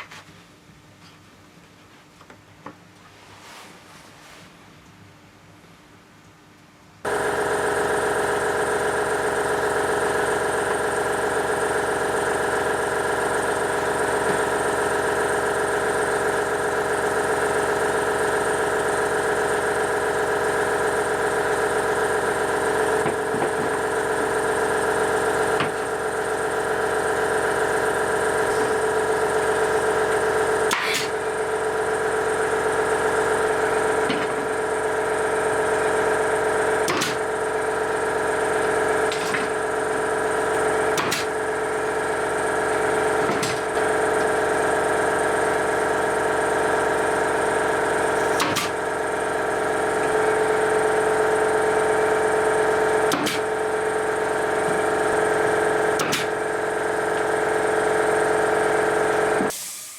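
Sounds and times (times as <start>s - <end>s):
electric power tool running: 7.0s - 59.9s.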